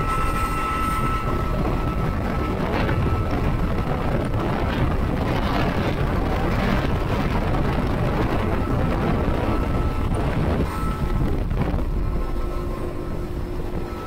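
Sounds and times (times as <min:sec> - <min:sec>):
outboard motor running: 0:00.0 - 0:14.0
wind buffeting microphone: 0:00.0 - 0:14.0.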